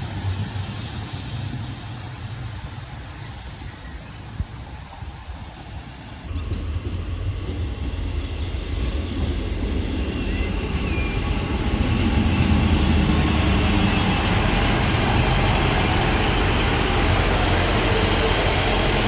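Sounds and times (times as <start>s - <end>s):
passing train rumbling: 0.0s - 19.0s.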